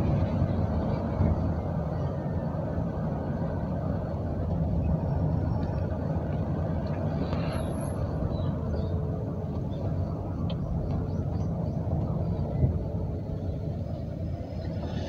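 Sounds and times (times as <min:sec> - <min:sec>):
van engine and road drone: 0:00.0 - 0:15.0.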